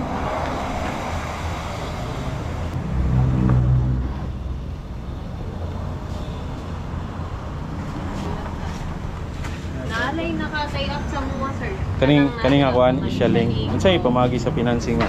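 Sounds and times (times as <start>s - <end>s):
motor vehicle engine rumble: 0.0s - 15.0s.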